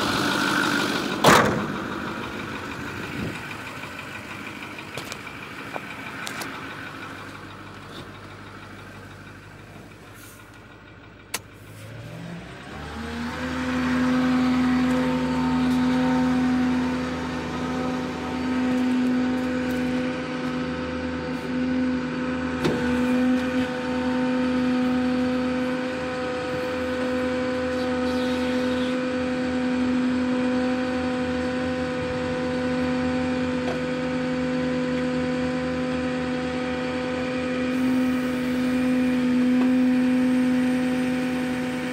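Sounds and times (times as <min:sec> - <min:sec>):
diesel truck engine whining: 0:00.0 - 0:41.9.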